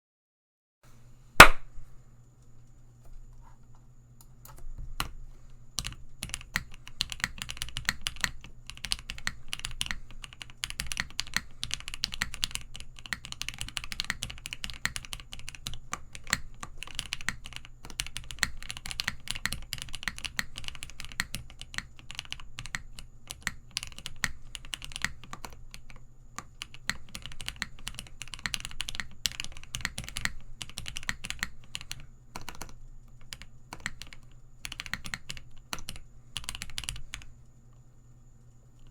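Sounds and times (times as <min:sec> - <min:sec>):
fast typing on mechanical keyboard: 0:05.8 - 0:37.3.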